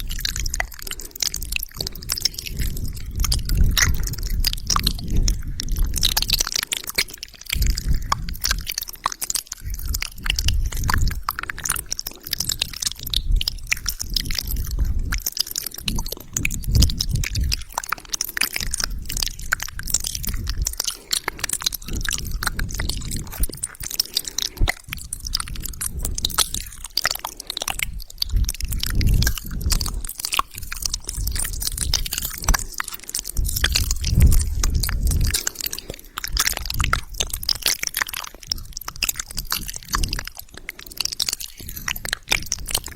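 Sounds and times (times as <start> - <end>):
wet mouth sounds: 0.0 - 42.9.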